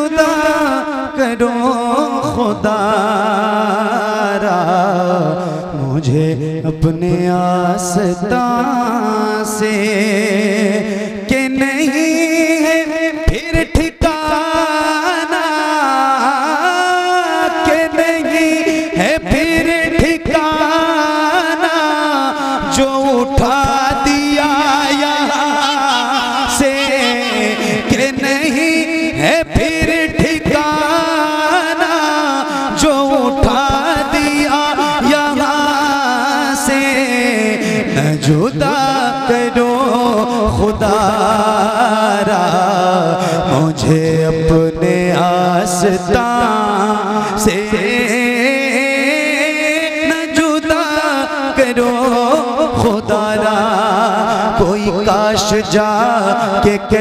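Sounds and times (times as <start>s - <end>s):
man singing with heavy echo: 0.0s - 57.0s
wordless melodic vocal line: 0.0s - 57.0s.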